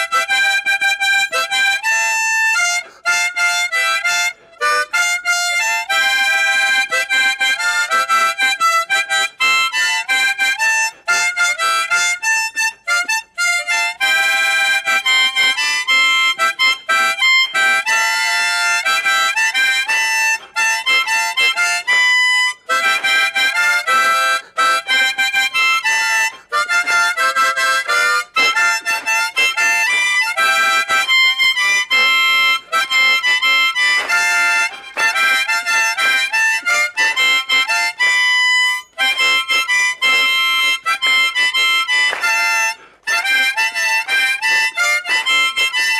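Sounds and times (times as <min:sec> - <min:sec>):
harmonica melody: 0:00.0 - 0:45.9.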